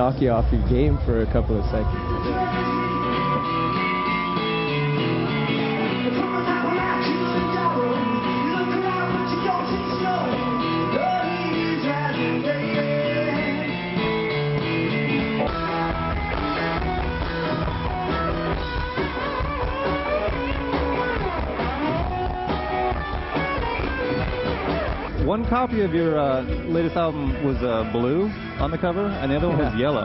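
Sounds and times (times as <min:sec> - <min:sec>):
rock music with singing: 0:00.8 - 0:30.0.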